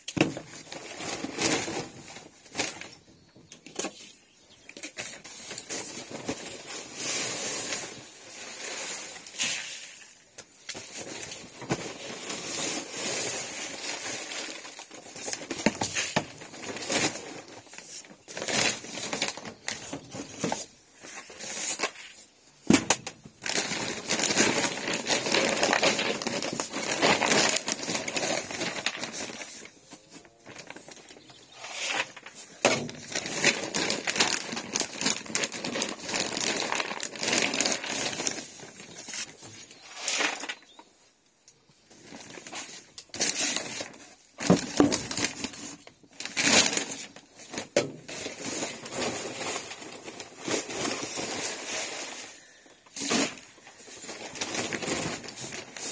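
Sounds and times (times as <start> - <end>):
feed sacks rustling and crinkling: 0.0 - 55.9.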